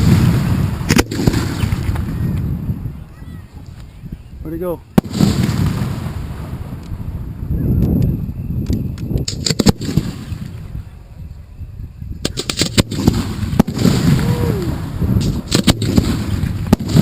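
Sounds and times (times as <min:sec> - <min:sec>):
fireworks bangs and crackles: 0:00.0 - 0:03.0, 0:04.6 - 0:11.2, 0:12.2 - 0:17.0.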